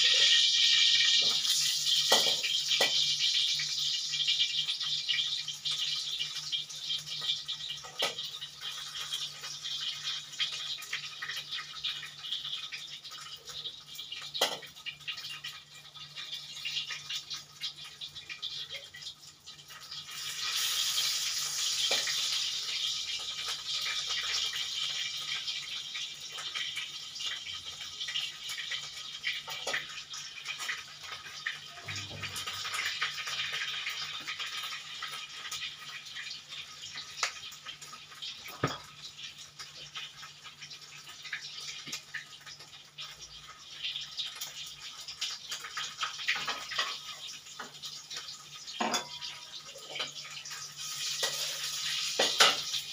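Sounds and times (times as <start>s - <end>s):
fish sizzling in hot oil: 0.0s - 52.9s.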